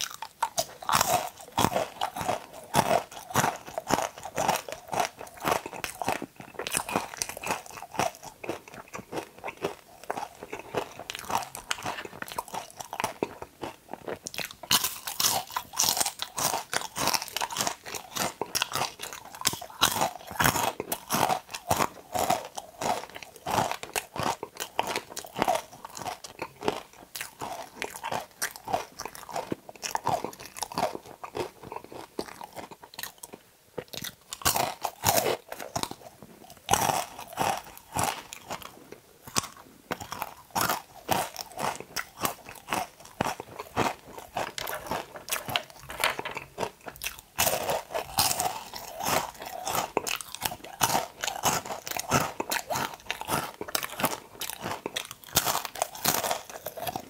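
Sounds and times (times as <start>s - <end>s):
crunchy chewing of okra: 0.0s - 57.0s.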